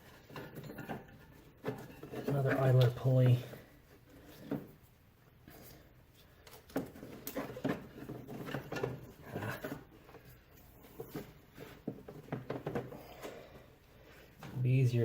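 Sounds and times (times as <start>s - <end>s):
rubber belt handling noises: 0.0s - 14.7s.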